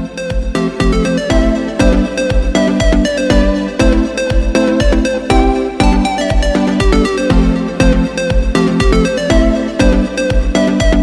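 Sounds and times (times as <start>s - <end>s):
electronic music: 0.0s - 11.0s
steady kick drum: 0.0s - 11.0s.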